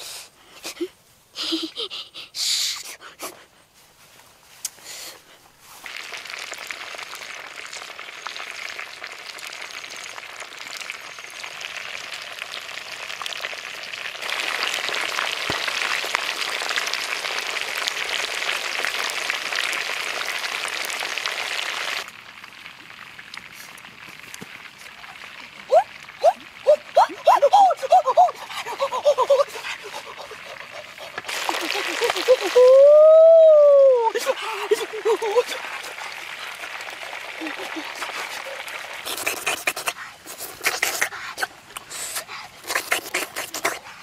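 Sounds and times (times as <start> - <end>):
chickens sizzling in hot oil: 5.8 - 43.9.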